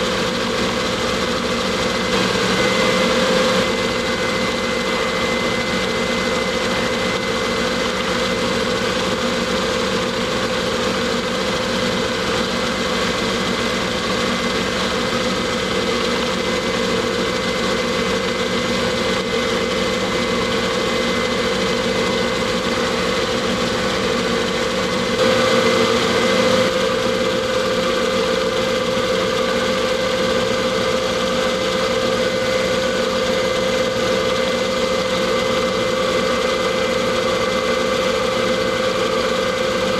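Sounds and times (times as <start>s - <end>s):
metal lathe running: 0.0s - 39.9s.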